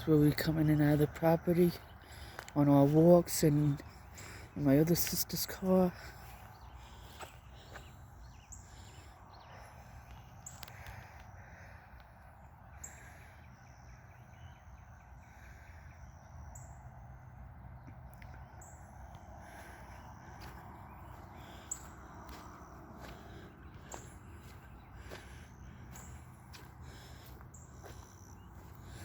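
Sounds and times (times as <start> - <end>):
birds chirping: 0.0 - 29.0
low outdoor background noise: 0.0 - 29.0.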